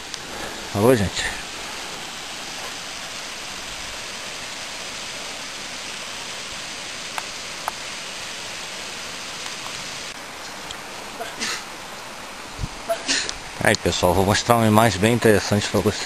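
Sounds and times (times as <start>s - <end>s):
stream rushing among boulders: 0.0s - 16.0s.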